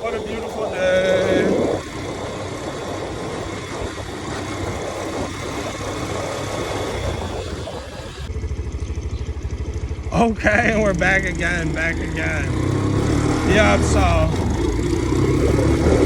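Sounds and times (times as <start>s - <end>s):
pulsing engine idle: 0.0s - 15.4s
motorcycle engine riding: 0.0s - 16.0s
wind and road noise: 0.0s - 16.0s.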